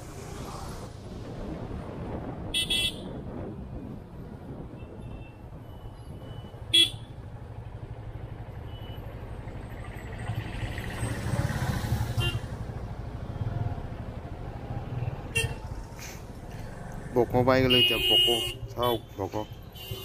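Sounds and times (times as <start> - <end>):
hum of surrounding vehicles: 0.0 - 20.0.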